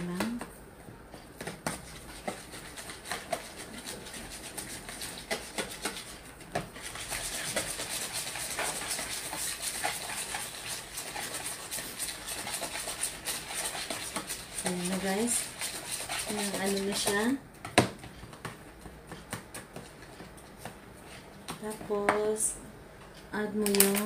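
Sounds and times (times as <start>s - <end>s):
whisk beating in plastic bowl: 1.4s - 22.2s.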